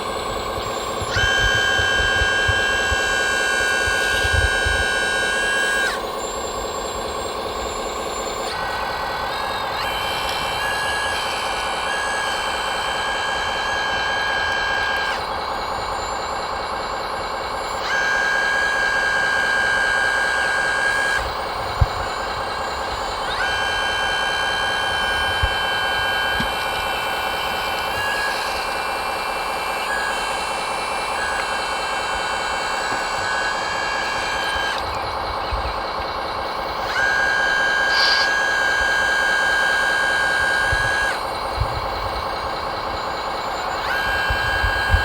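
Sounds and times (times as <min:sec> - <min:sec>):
continuous mechanical hum: 0:00.0 - 0:45.0
electric motor gear whine: 0:00.0 - 0:45.0.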